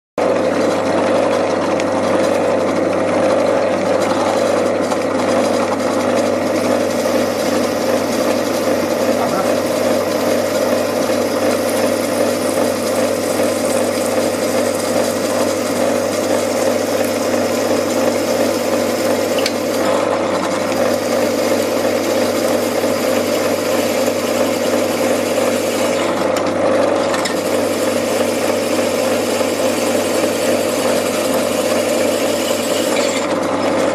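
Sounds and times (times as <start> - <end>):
pillar drill humming: 3.2 - 33.8.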